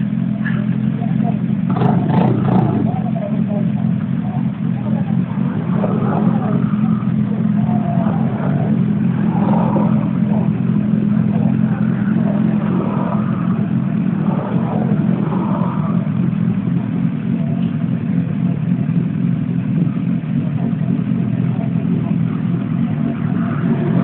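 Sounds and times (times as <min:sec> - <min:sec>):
faint voices: 0:00.0 - 0:24.0
motorcycle engine idling: 0:00.0 - 0:24.0.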